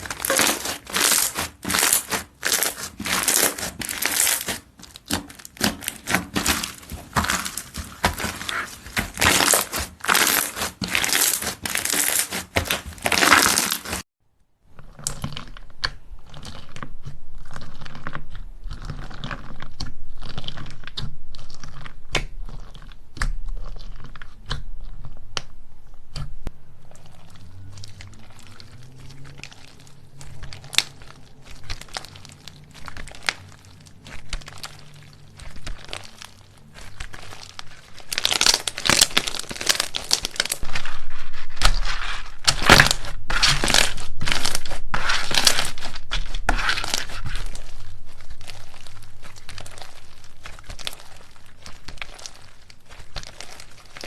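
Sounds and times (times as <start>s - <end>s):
slime crackling and popping: 0.0s - 14.1s, 14.8s - 54.0s.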